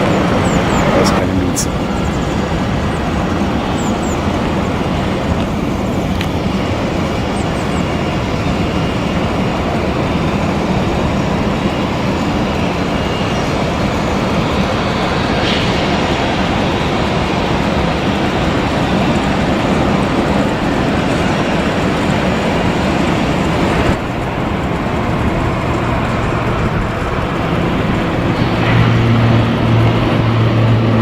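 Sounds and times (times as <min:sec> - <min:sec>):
jet airliner engines roaring: 0:00.0 - 0:31.0.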